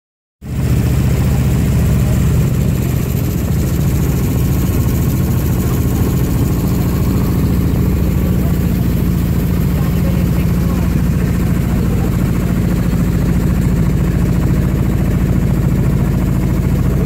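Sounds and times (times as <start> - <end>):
boat engine running: 0.4 - 17.0.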